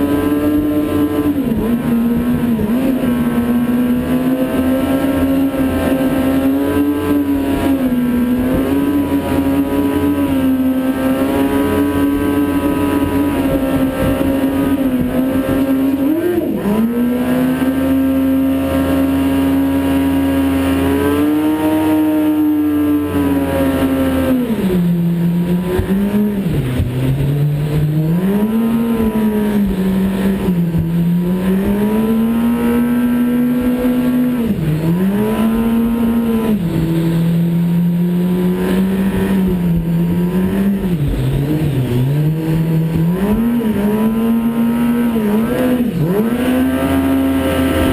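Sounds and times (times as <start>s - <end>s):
motorcycle engine running hard: 0.0s - 47.9s.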